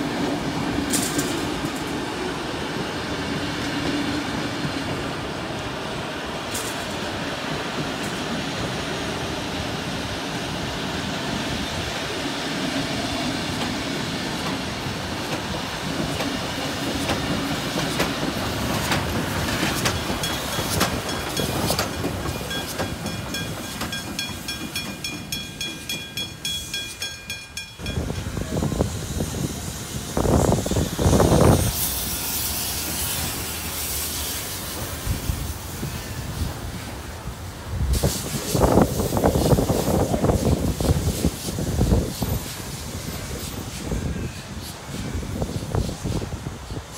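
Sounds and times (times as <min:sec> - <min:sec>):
train wheels clattering over rails: 0:00.0 - 0:46.9.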